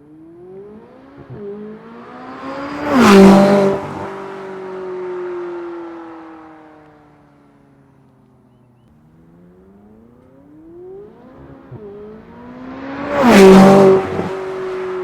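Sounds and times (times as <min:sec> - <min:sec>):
sports car accelerating past: 0:00.2 - 0:06.9, 0:09.0 - 0:15.0.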